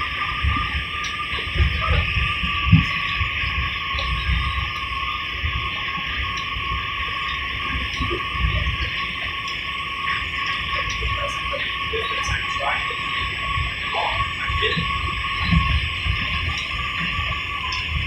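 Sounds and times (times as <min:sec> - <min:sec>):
high-pitched brake whine: 0:00.0 - 0:18.0.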